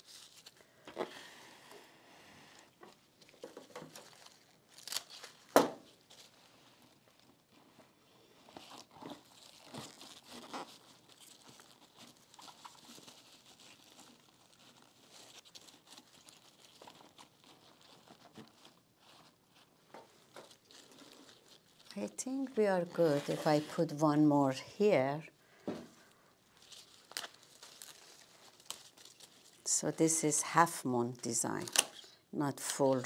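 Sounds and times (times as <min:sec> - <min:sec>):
flowers rustling and crinkling: 0:00.0 - 0:01.7, 0:02.5 - 0:33.0.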